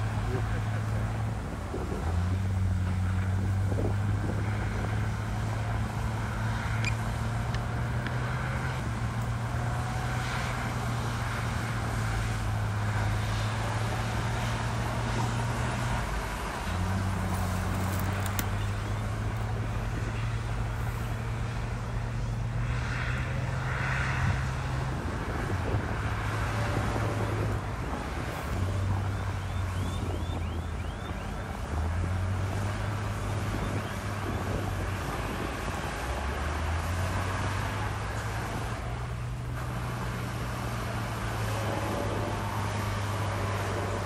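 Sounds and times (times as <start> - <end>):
heavy diesel engines under load: 0.0 - 44.0.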